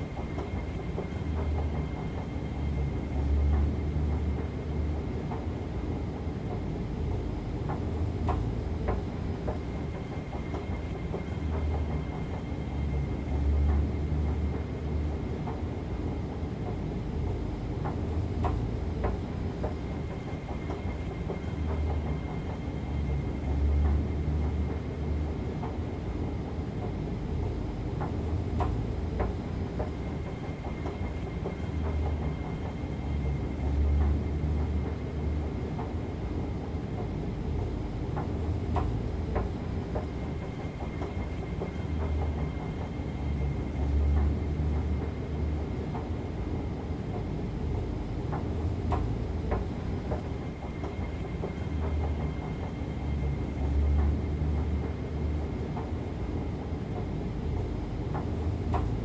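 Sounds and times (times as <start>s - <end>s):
escalator mechanical rumble: 0.0s - 59.0s.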